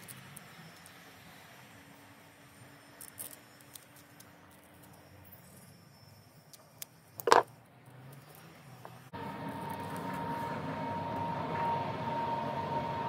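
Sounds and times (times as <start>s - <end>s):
background noise with high hum: 0.0s - 13.0s.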